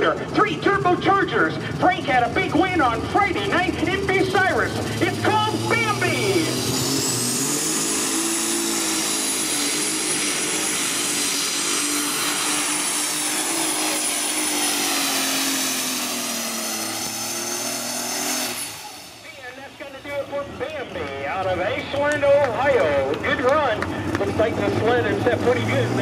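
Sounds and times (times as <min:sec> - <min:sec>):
high engine whine: 0:00.0 - 0:26.0
tractor engine running flat out: 0:00.0 - 0:26.0.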